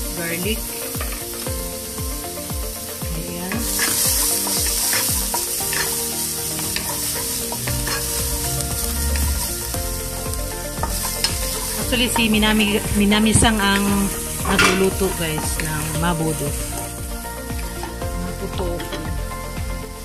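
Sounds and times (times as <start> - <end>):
ginger and garlic sizzling in oil: 0.0 - 20.0.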